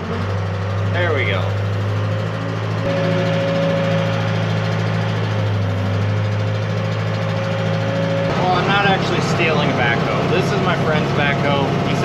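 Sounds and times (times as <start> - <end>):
backhoe diesel engine drone: 0.0 - 12.0.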